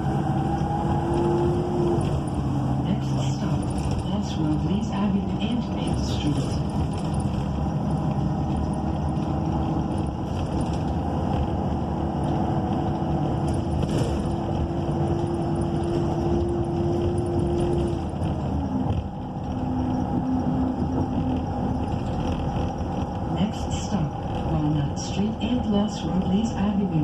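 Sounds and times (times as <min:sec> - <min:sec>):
bus engine and road noise: 0:00.0 - 0:27.0.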